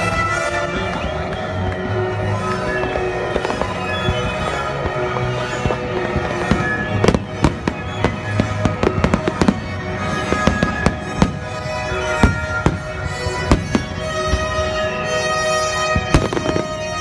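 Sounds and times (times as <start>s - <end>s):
fireworks bangs: 0.0s - 17.0s
music over loudspeakers: 0.0s - 17.0s.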